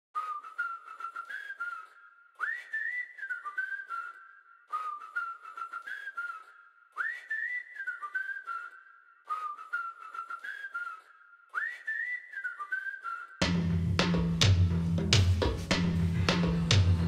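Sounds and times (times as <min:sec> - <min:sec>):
person whistling a tune: 0:00.2 - 0:17.0.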